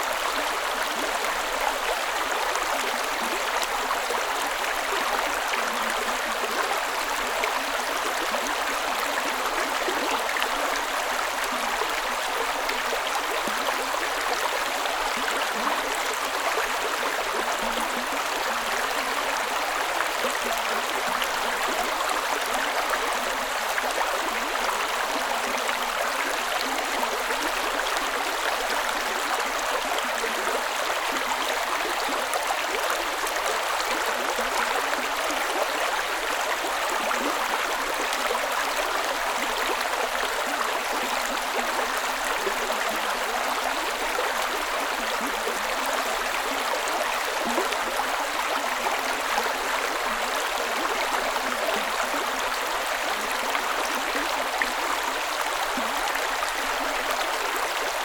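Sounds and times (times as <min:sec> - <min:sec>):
creek water over rocks: 0:00.0 - 0:58.0.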